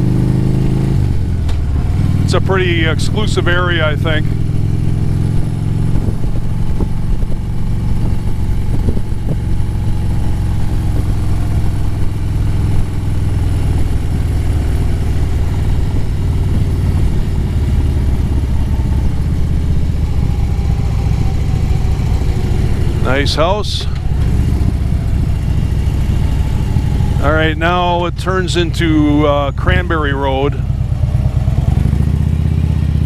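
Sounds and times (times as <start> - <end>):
motorcycle engine cruising: 0.0 - 33.0.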